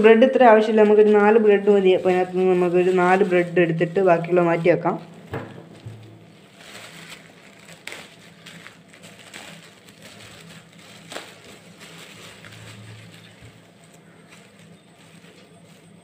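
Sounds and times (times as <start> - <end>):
plastic bag rustling and crinkling: 0.0 - 16.0.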